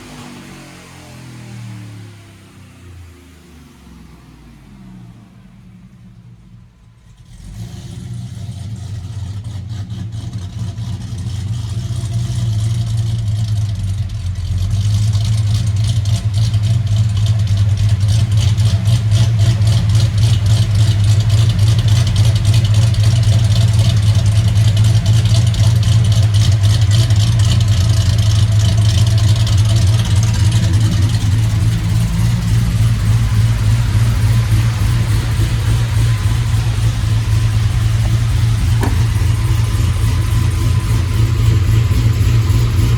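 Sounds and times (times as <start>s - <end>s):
loud pickup engine running: 0.0s - 42.9s.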